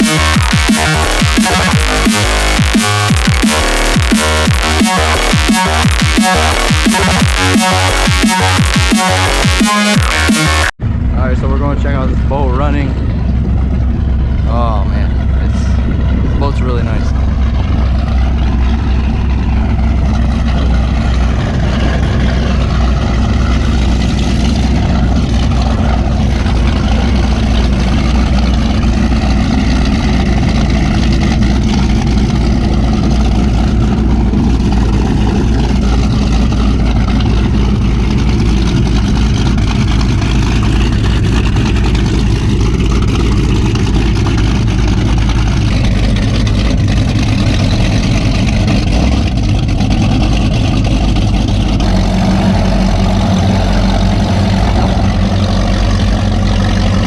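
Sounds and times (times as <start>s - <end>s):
powerboat engines running: 0.0s - 57.0s.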